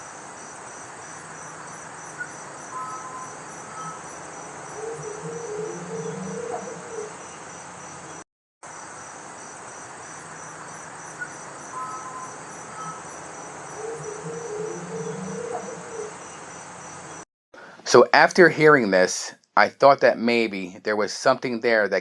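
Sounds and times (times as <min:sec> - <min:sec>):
crickets chirping: 0:00.0 - 0:17.7.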